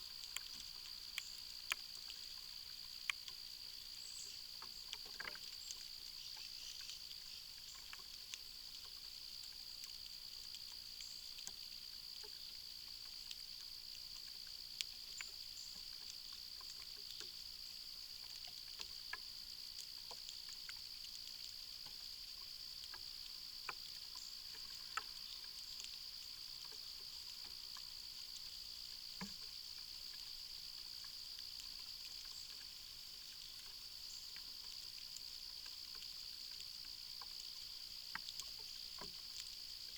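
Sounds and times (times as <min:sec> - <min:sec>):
insect chorus trilling: 0:00.0 - 0:39.9
faint clicks: 0:00.1 - 0:17.4, 0:18.2 - 0:39.9.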